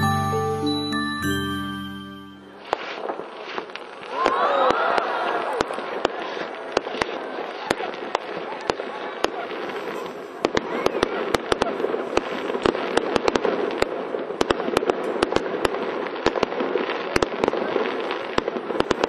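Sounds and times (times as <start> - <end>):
fireworks pops and crackles: 2.5 - 19.0.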